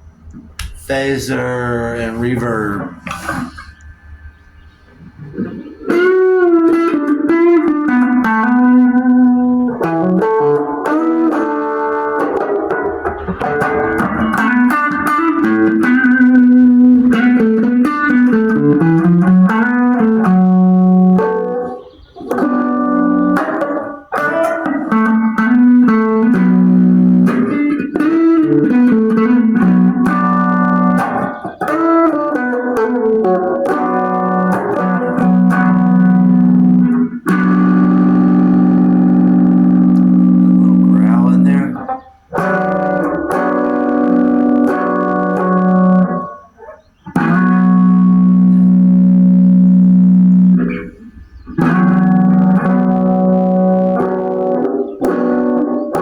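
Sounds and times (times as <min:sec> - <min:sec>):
distorted electric guitar notes: 0:00.0 - 0:56.0.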